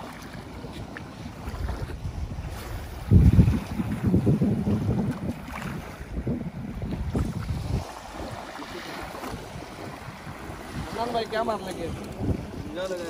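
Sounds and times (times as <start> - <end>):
small waves lapping beach: 0.0 - 13.0
wind buffeting microphone: 0.0 - 13.0.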